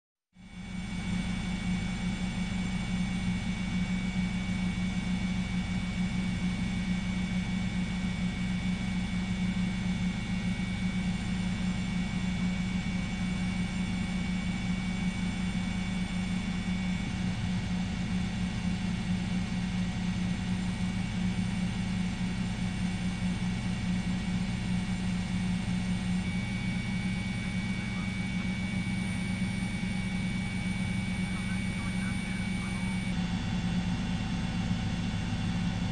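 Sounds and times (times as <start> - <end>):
helicopter engine and rotors drone: 0.4 - 35.9.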